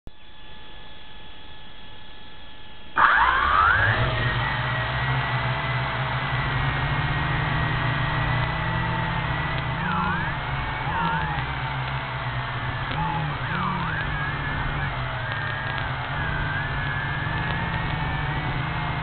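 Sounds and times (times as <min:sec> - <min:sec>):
rc car motor whining: 0:03.0 - 0:19.0
wheels and drivetrain running noise: 0:03.0 - 0:19.0.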